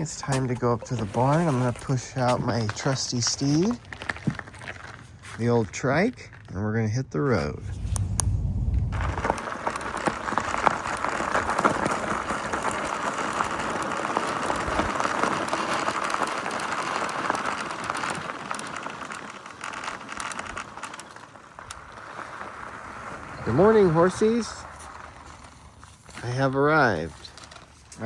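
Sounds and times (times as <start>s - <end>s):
small crackles: 0.0s - 28.0s
tyre and wind noise: 0.0s - 28.0s.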